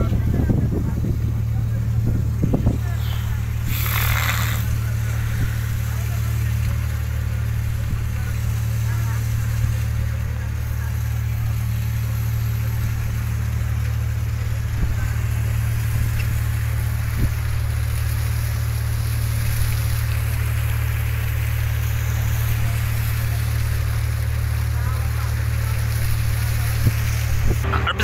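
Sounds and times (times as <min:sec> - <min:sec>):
ship engine drone: 0:00.0 - 0:28.0
wind and sea hiss: 0:00.0 - 0:28.0.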